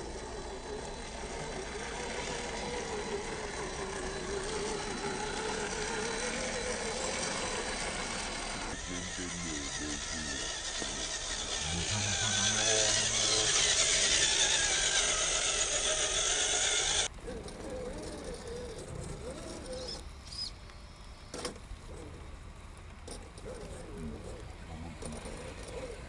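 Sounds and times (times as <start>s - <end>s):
rc truck motors whining: 0.0s - 20.6s, 21.2s - 26.0s.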